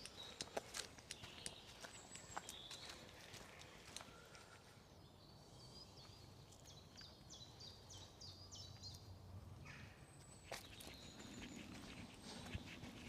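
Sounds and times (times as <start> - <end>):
faint songbird song: 0.0 - 13.0.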